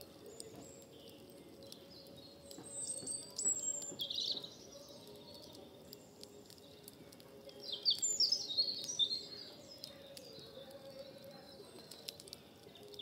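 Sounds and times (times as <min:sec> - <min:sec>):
campfire crackling: 0:00.0 - 0:13.0
songbirds chirping: 0:00.0 - 0:13.0.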